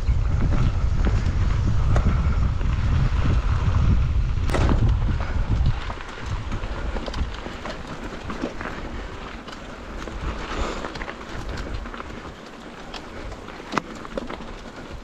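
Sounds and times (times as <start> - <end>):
bike rattling and clicking: 0.0 - 15.0
wind buffeting microphone: 0.0 - 15.0.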